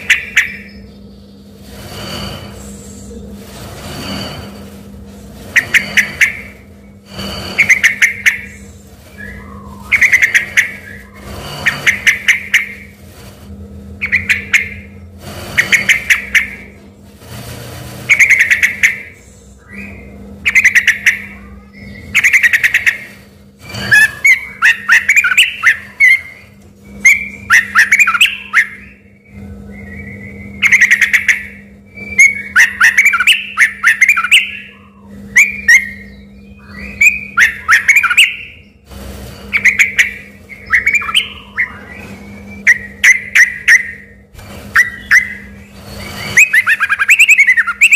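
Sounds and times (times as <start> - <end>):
bulbul singing: 0.0 - 3.4, 5.4 - 13.0, 14.0 - 16.8, 18.1 - 47.9
low steady hum: 0.0 - 47.9.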